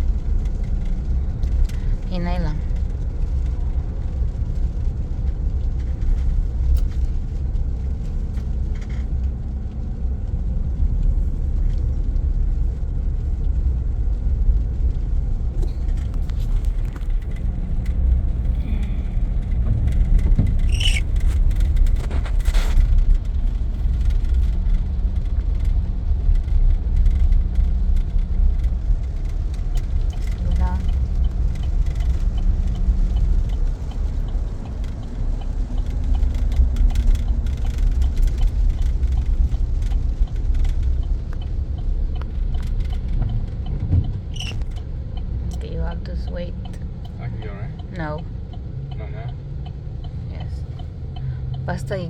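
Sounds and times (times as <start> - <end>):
engine and road noise rumble: 0.0 - 52.0.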